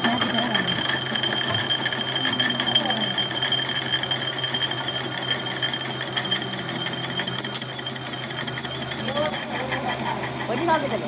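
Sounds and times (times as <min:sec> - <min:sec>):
cutting tool high-pitched squeal: 0:00.0 - 0:11.0
lathe machine hum: 0:00.0 - 0:11.0.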